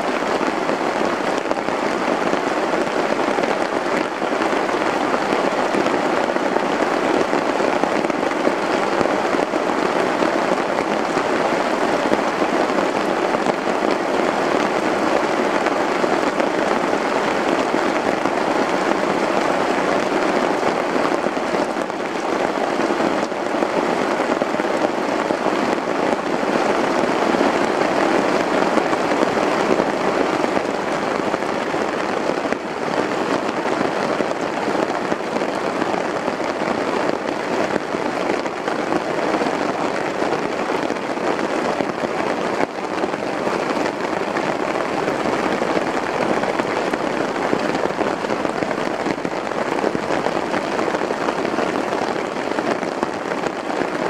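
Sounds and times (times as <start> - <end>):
rain on a tarp: 0.0 - 54.0.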